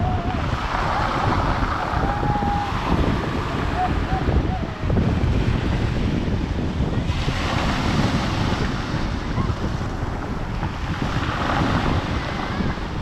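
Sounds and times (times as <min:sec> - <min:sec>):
sea waves washing onto beach: 0:00.0 - 0:13.0
wind buffeting microphone: 0:00.0 - 0:13.0.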